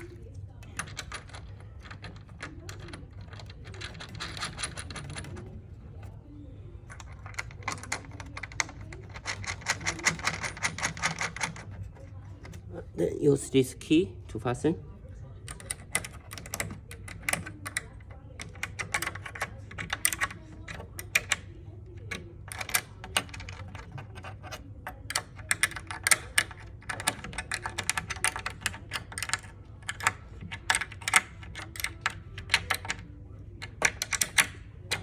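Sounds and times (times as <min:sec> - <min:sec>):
metal hex key clicking: 0:00.0 - 0:05.7, 0:06.9 - 0:12.7, 0:15.4 - 0:35.0.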